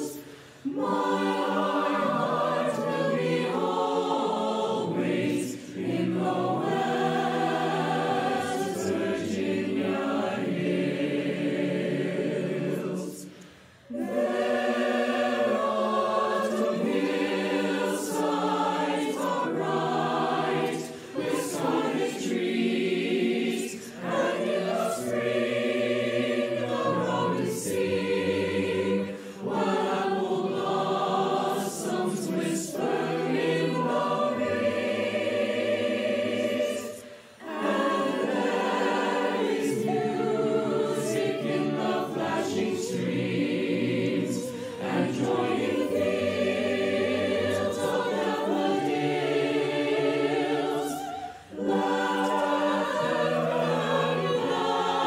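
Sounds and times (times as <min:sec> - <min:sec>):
mixed choir singing in harmony: 0:00.0 - 0:55.0.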